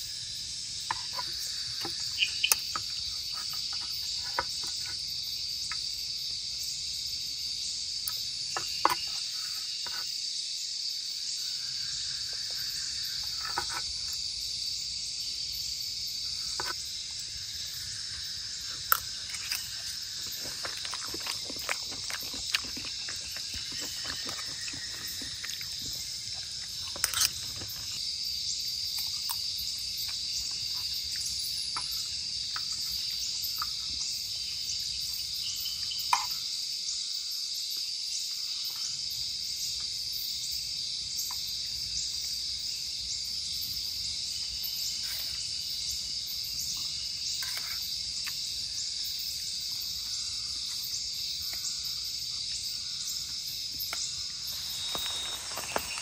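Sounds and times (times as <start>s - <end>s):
insect chirping: 0.0s - 56.0s
insects buzzing: 0.0s - 56.0s.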